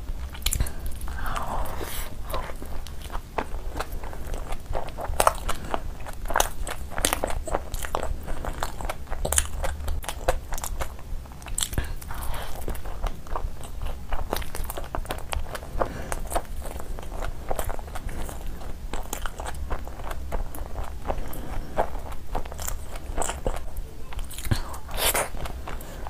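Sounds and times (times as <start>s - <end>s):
person chewing bread: 0.0s - 26.0s.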